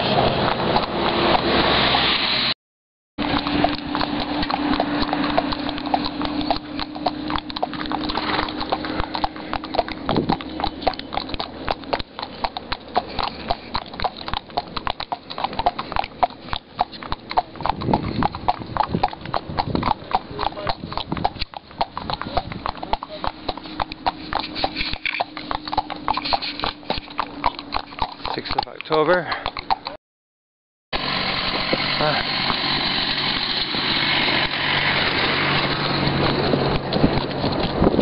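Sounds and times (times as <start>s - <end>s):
hooves clip-clopping on pavement: 0.0s - 2.2s, 3.2s - 30.0s, 31.0s - 38.0s.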